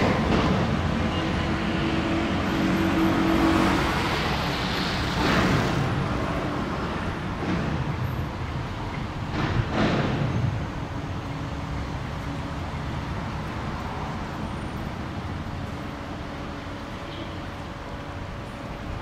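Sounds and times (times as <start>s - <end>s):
cars passing: 0.0s - 19.0s
low rumble of traffic: 0.0s - 19.0s.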